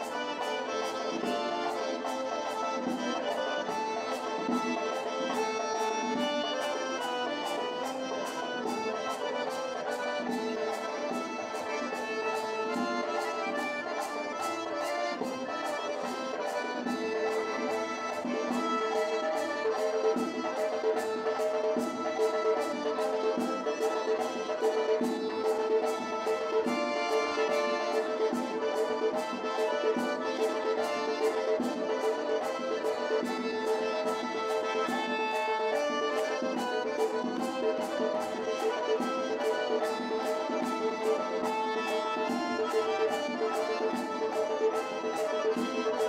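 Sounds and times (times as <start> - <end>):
accordion playing lively folk dance: 0.0 - 46.0
percussive clicking beat: 0.0 - 46.0.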